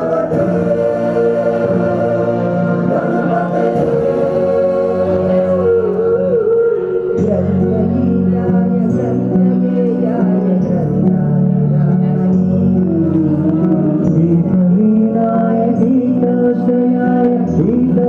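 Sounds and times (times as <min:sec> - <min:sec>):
bass line: 0:00.0 - 0:18.0
song with held melody notes: 0:00.0 - 0:18.0.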